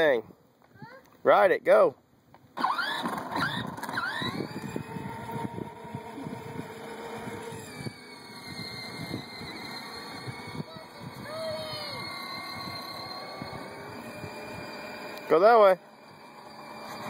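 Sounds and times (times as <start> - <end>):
electric toy motor whining: 2.6 - 17.0.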